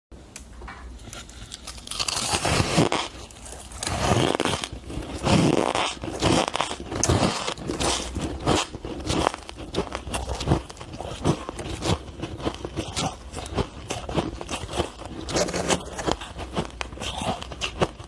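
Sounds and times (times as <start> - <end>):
shaved ice being chewed: 1.0 - 18.0.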